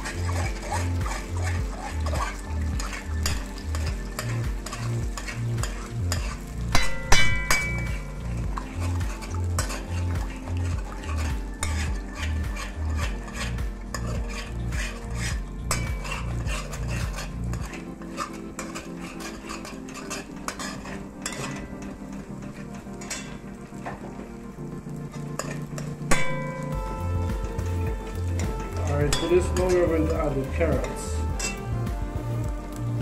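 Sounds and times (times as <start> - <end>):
metal spoon scraping pot: 0.0 - 24.1, 25.1 - 26.7, 27.5 - 31.7
spoon clanking on pot: 0.0 - 24.1, 25.2 - 26.6, 28.4 - 31.6
oil sizzling: 0.0 - 33.0.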